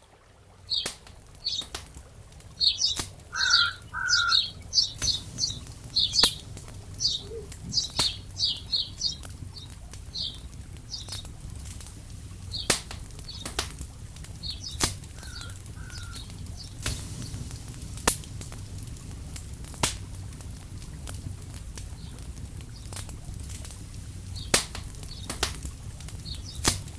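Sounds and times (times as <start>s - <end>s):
birds chirping: 0.6s - 19.3s, 21.3s - 23.4s, 24.0s - 26.9s
sharp snaps: 0.7s - 26.9s
low rumble: 1.2s - 26.9s.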